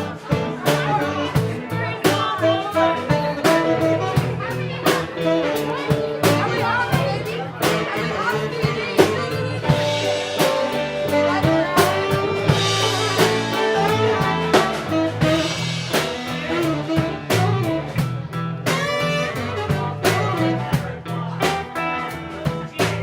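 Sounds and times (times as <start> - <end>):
drum kit beat: 0.0 - 23.0
guitar: 0.0 - 23.0
live blues band: 0.0 - 23.0.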